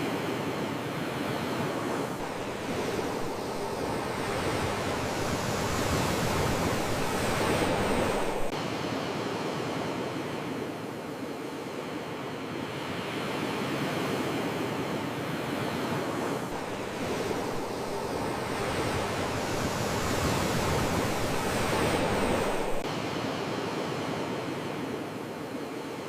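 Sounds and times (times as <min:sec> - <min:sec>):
sea waves washing onto shore: 0:00.0 - 0:12.1, 0:12.8 - 0:26.0.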